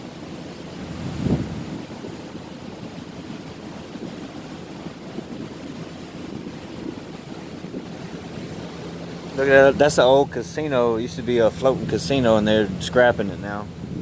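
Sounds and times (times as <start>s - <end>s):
boat engine rumble: 0.0s - 14.0s
water wash: 0.0s - 14.0s
wind buffeting microphone: 0.0s - 14.0s.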